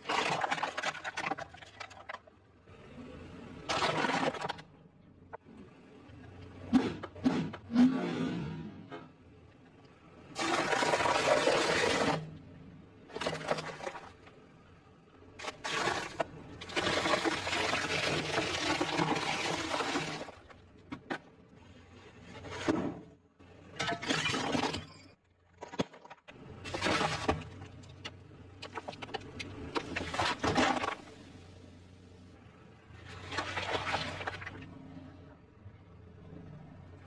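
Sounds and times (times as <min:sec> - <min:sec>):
car tyre crushing objects: 0:00.0 - 0:05.6, 0:06.2 - 0:21.4, 0:22.2 - 0:35.3.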